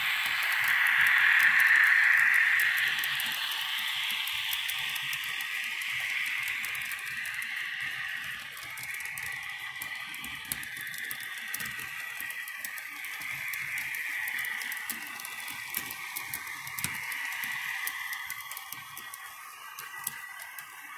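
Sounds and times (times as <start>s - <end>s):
model train wheels clicking: 0.0s - 20.9s
steady high whine: 0.0s - 20.9s.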